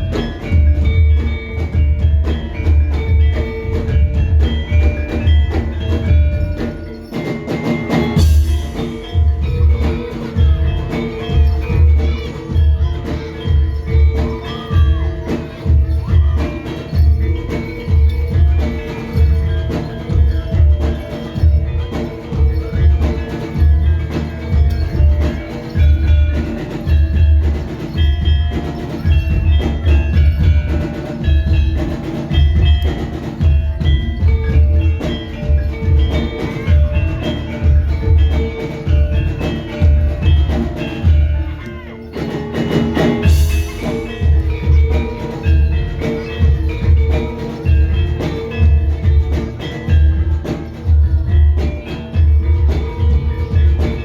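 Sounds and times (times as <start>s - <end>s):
deep drum beats: 0.0s - 54.0s
metal keys and gongs ringing: 0.0s - 54.0s.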